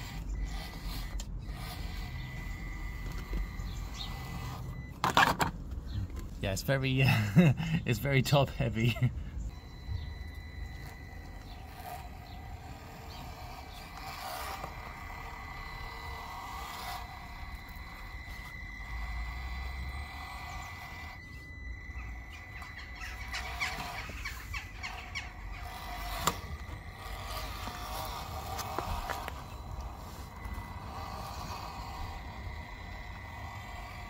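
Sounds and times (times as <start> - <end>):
electric motor whining: 0.0 - 34.0.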